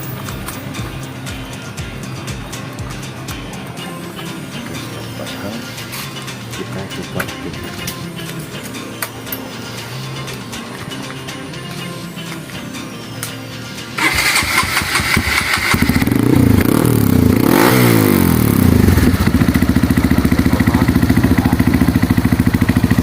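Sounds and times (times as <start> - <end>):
motorcycle engine starting and revving: 0.0 - 11.0, 14.0 - 23.0.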